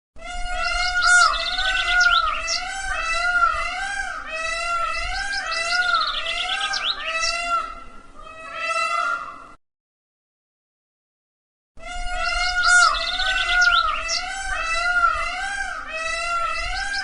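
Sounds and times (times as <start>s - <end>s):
peacock calling: 0.2s - 9.6s, 11.8s - 17.0s.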